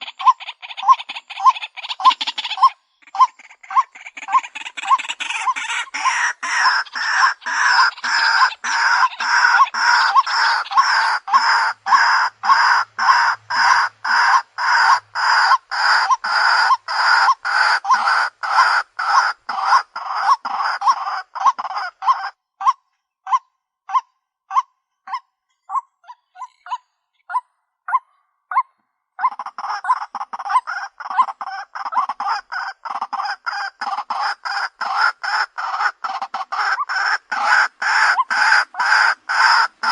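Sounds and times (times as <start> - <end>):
bird harsh croaking calls: 0.0 - 39.9.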